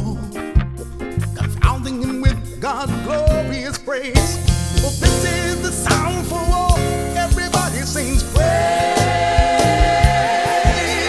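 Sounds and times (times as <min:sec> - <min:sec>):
bass and drum beats: 0:00.0 - 0:11.0
gospel singing: 0:00.0 - 0:11.0.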